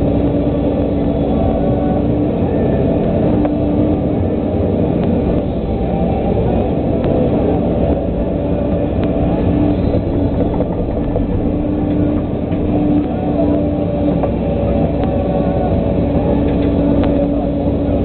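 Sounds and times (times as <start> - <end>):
excavator diesel engine running: 0.0 - 18.0
steady hydraulic hum: 0.0 - 18.0.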